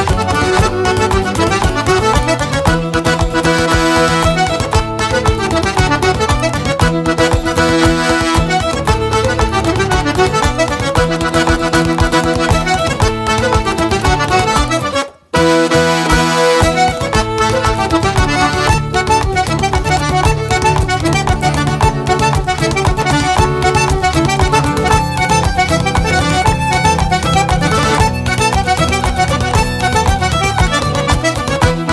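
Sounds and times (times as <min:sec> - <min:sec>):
accordion fiddle and guitar dance tune: 0:00.0 - 0:31.9.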